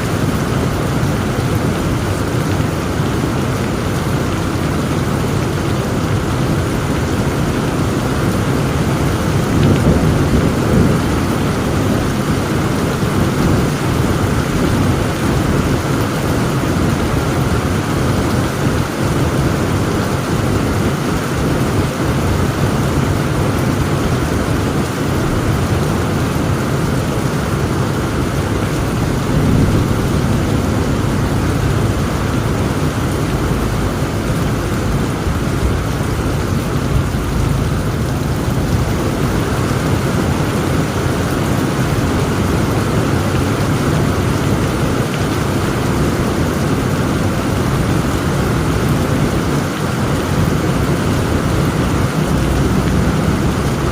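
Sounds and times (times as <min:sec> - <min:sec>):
heavy rain falling: 0:00.0 - 0:53.9
low rumble of thunder: 0:05.3 - 0:53.9.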